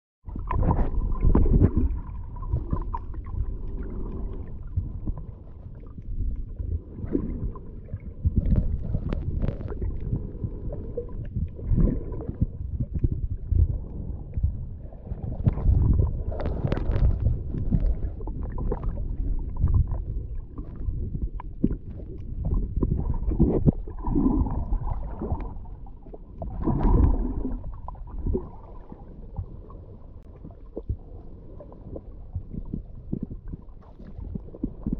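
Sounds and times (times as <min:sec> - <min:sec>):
muffled underwater sloshing: 0:00.2 - 0:34.9.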